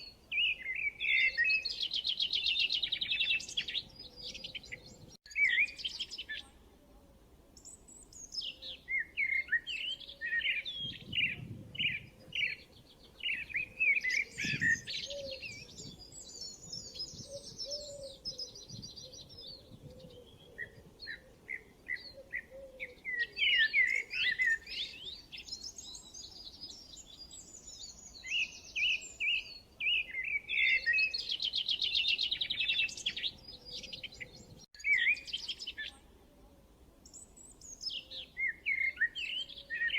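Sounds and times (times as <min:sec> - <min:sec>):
birds chirping and trilling: 0:00.0 - 0:06.6, 0:07.6 - 0:39.9.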